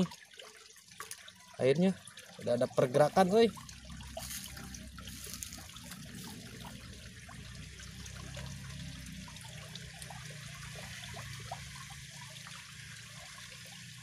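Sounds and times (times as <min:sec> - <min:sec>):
water trickling in ditch: 0:00.0 - 0:14.0.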